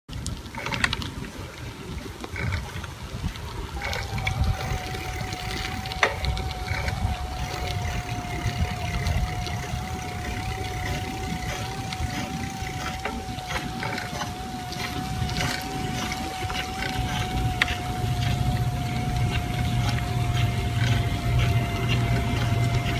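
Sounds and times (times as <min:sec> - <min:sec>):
wind buffeting microphone: 0:00.1 - 0:22.9
thin steady whine: 0:03.5 - 0:22.9.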